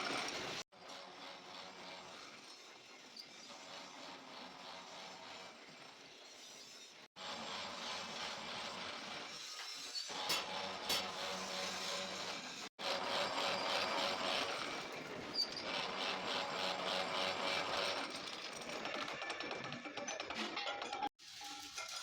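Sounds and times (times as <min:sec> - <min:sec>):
power tool rasping metal: 0:00.0 - 0:19.2.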